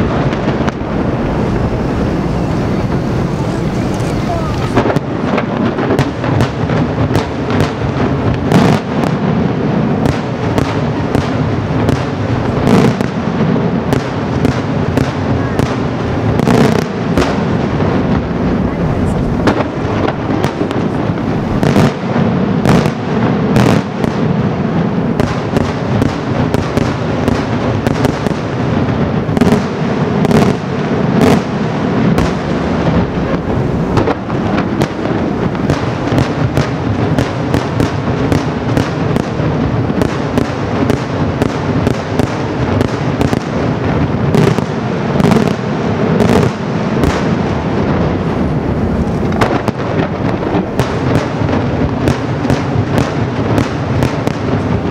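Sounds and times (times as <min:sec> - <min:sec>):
fireworks bursts and bangs: 0:00.0 - 0:54.9.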